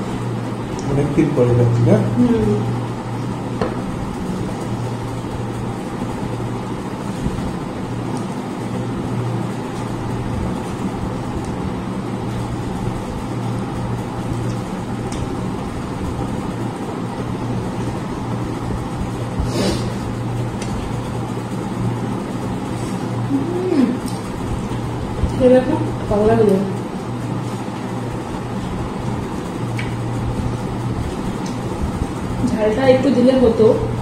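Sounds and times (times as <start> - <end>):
droning background hum: 0.0 - 34.0.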